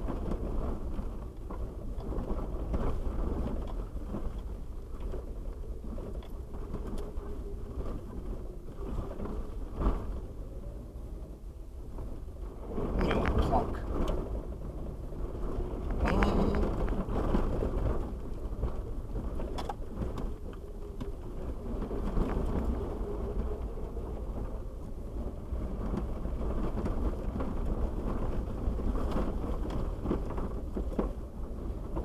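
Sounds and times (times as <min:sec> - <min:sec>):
engine and tyres rumbling: 0:00.0 - 0:32.0
knocks and rattles over bumps: 0:00.0 - 0:32.0.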